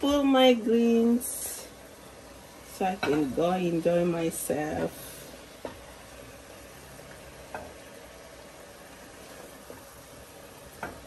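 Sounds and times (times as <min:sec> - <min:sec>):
greens sizzling in a pot: 0:00.0 - 0:11.0.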